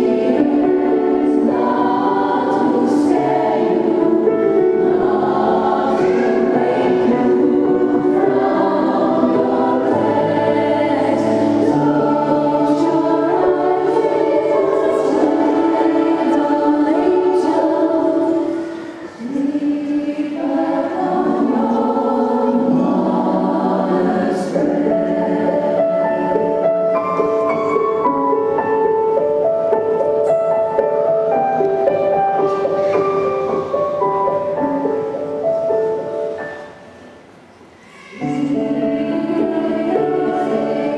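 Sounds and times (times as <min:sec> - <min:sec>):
women's choir singing: 0:00.0 - 0:36.4, 0:37.9 - 0:40.9.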